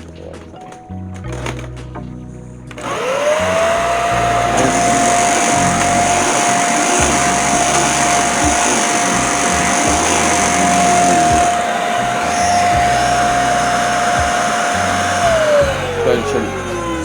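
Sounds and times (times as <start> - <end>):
vacuum cleaner on carpet: 2.7 - 17.0.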